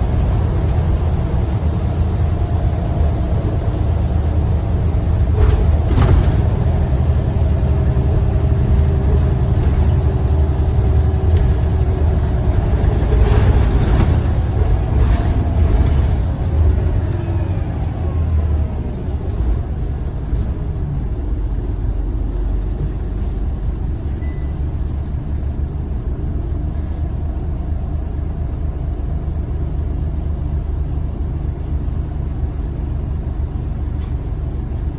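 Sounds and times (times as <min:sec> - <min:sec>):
bus diesel engine rumbling: 0:00.0 - 0:34.9.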